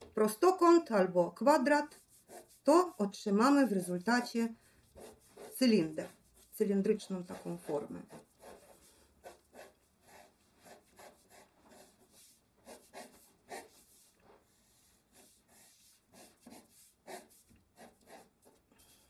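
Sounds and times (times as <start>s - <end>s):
pencil scratching on paper: 1.4s - 18.7s.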